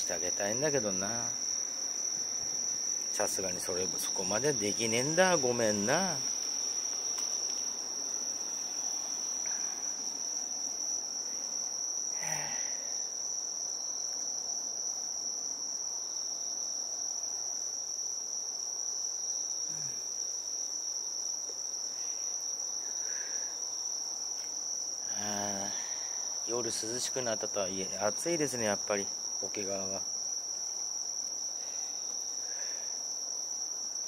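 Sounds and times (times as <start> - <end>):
night insects chirring: 0.0 - 34.0.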